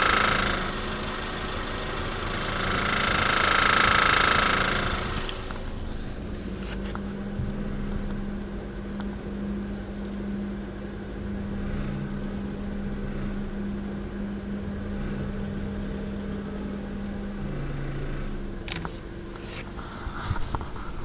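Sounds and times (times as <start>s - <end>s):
car engine hum from inside: 3.6s - 21.0s.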